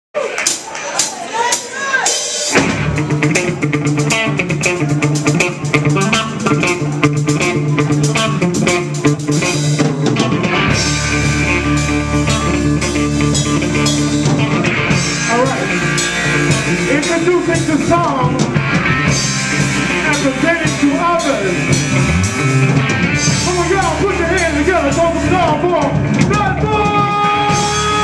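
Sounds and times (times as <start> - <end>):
drum kit: 0.2 - 28.0
electric guitars: 2.4 - 28.0
bass guitar: 2.5 - 28.0.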